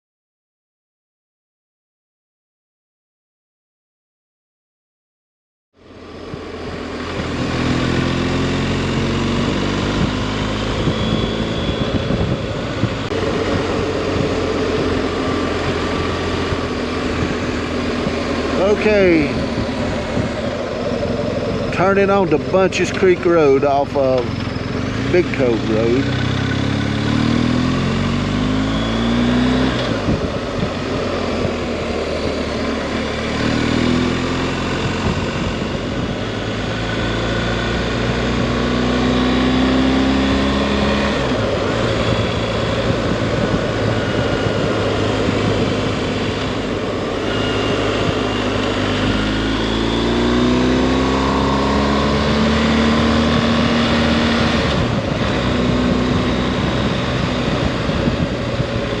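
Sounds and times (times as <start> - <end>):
motorcycle engine accelerating: 5.8 - 59.0
wind noise: 8.8 - 32.8, 33.4 - 38.7, 39.5 - 59.0.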